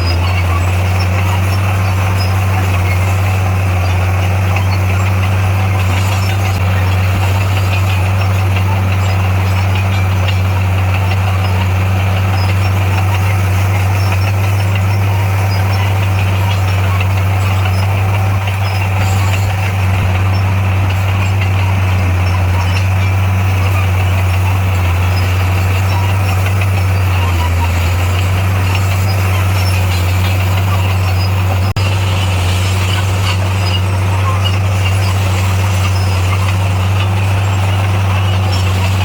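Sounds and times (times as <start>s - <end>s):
large diesel engine running: 0.0s - 39.0s.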